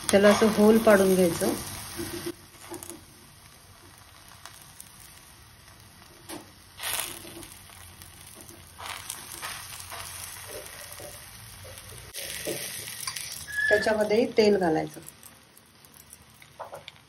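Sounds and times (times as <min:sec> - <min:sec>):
flatbread sizzling on a griddle: 0:00.0 - 0:17.0.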